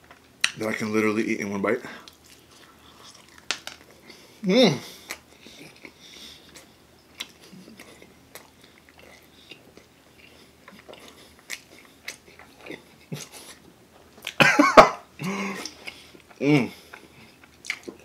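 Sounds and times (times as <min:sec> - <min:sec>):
man chewing food: 0:02.0 - 0:18.0.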